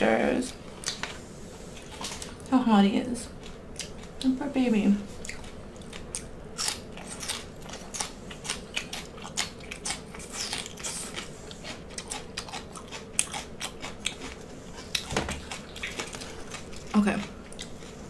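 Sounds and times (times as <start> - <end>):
chewing crisp vegetable stems: 0.1 - 18.0.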